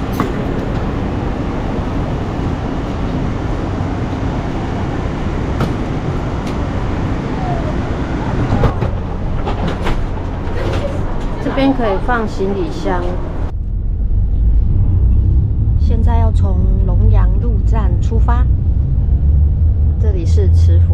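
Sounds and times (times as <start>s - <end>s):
train carriage rumble and hum: 0.0s - 20.9s.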